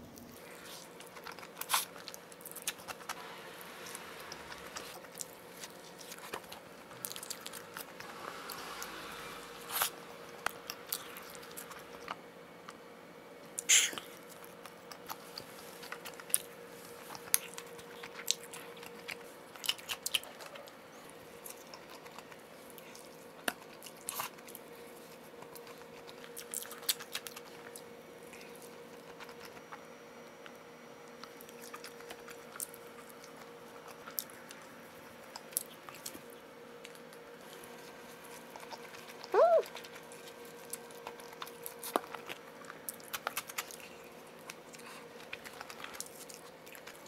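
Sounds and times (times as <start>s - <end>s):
person chewing pizza: 0.0s - 12.8s, 13.5s - 47.0s
faint steady hum: 0.0s - 47.0s.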